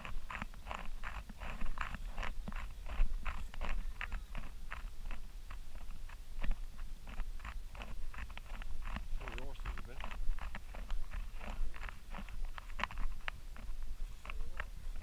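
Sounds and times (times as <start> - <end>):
footsteps through grass and dirt: 0.0 - 15.0
low steady rumble: 0.0 - 15.0.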